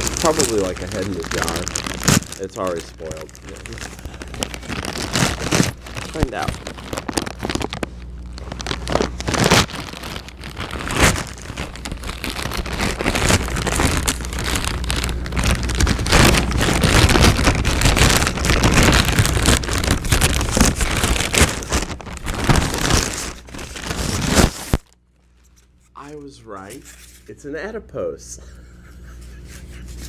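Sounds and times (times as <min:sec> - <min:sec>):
envelope crinkling and crackling: 0:00.0 - 0:26.2.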